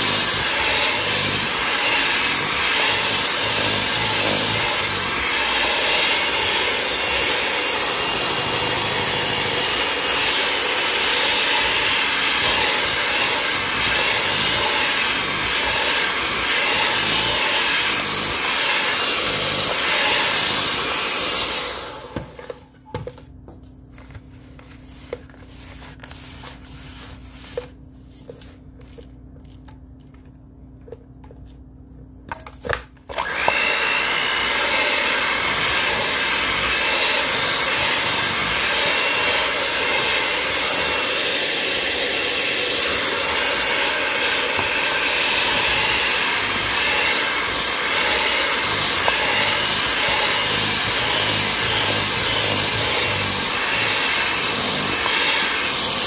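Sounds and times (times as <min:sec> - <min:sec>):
electric mixer running: 0:00.0 - 0:22.6, 0:33.1 - 0:56.0.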